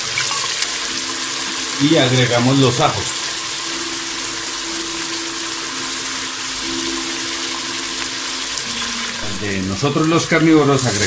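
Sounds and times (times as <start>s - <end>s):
onion and garlic sizzling in oil: 0.0s - 11.0s.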